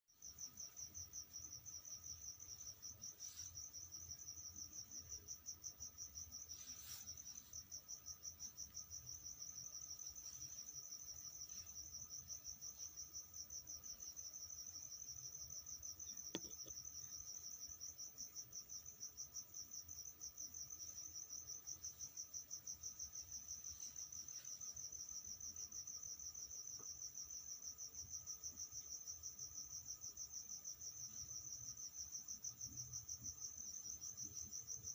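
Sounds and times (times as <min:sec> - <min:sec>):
cricket trilling: 0:00.2 - 0:34.9.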